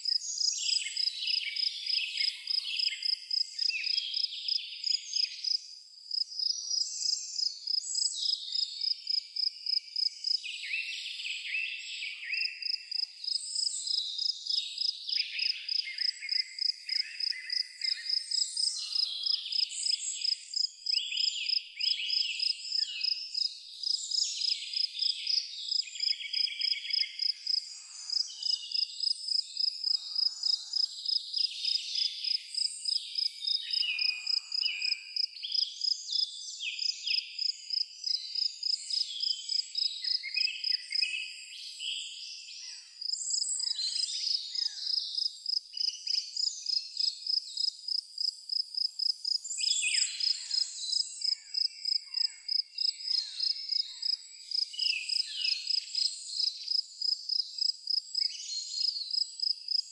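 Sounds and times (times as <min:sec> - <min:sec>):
cricket chirping: 0:00.0 - 0:10.6, 0:12.3 - 0:41.5, 0:43.0 - 0:59.9
birds singing: 0:00.0 - 0:47.4, 0:49.4 - 0:59.9.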